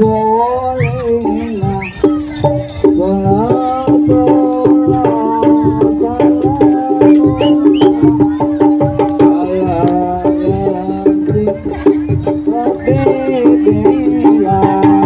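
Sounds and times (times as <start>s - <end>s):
loud music with drumbeat: 0.0s - 15.0s.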